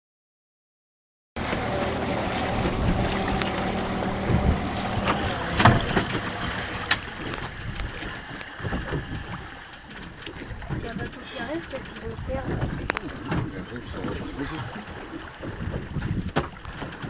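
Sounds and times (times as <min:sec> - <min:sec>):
boat engine running: 0:01.4 - 0:17.0
water noise: 0:01.4 - 0:17.0
wind: 0:01.4 - 0:17.0.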